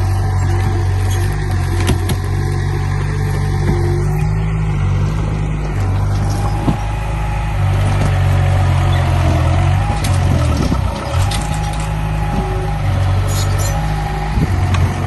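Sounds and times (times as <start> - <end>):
heavy diesel engine working: 0.0 - 15.0.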